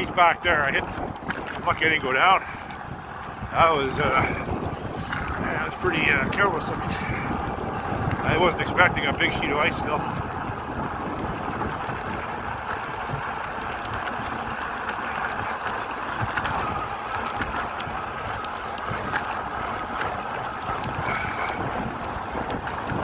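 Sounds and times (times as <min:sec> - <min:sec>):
rain: 0:00.0 - 0:01.6, 0:02.4 - 0:23.0
bike tyres on wet icy trail: 0:00.0 - 0:23.0
wind buffeting the microphone: 0:00.0 - 0:23.0.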